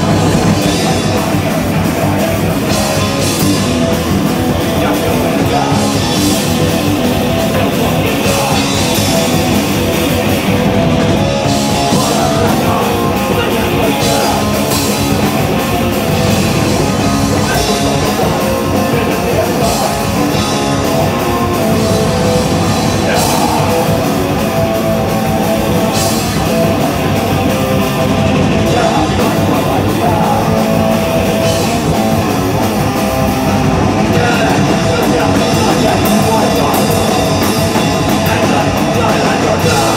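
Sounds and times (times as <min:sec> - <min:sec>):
pounding drum kit: 0:00.0 - 0:39.9
punk band playing live: 0:00.0 - 0:39.9.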